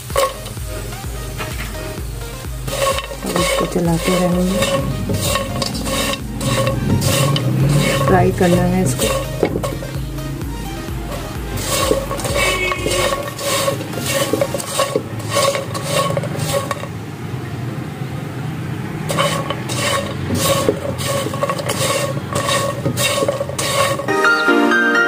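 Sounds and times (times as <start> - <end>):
spatula scraping frying pan: 0.0 - 17.0, 19.0 - 24.1
bread frying in oil: 0.0 - 24.1.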